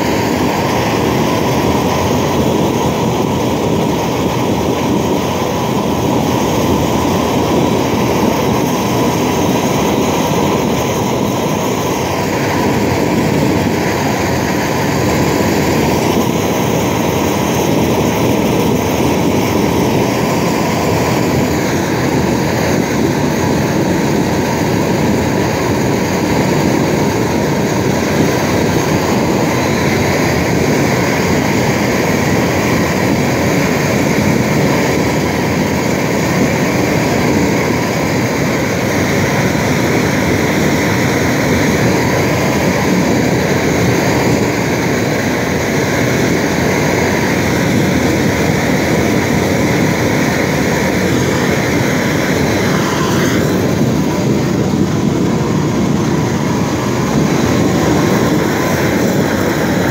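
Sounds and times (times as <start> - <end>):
propane torch flame rushing: 0.0 - 59.9.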